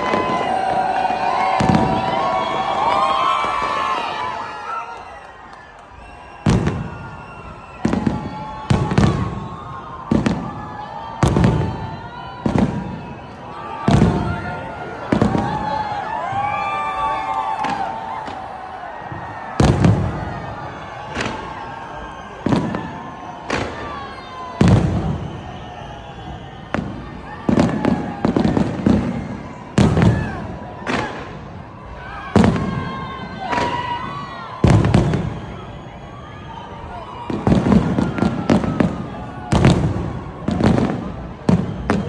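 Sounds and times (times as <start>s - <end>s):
fireworks booming: 0.0s - 4.5s, 5.9s - 42.0s.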